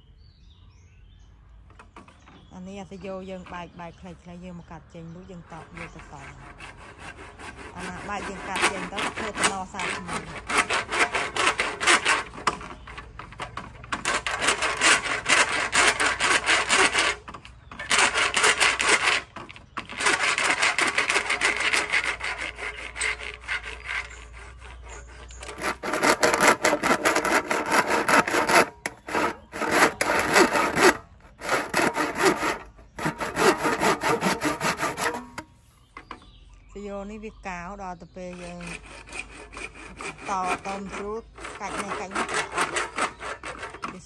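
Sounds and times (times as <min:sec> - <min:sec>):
rapid scraping strokes: 0:05.5 - 0:36.2, 0:38.2 - 0:44.0.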